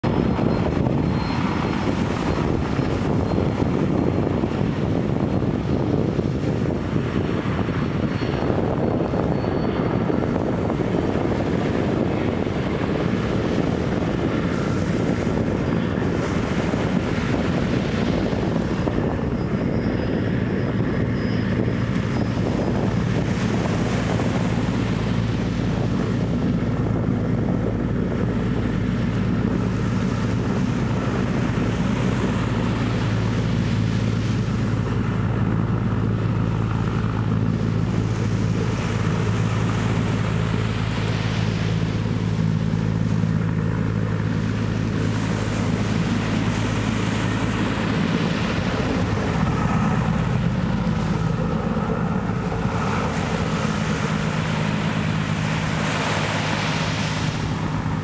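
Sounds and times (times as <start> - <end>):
helicopter rotors and turbine engines: 0.0 - 58.0.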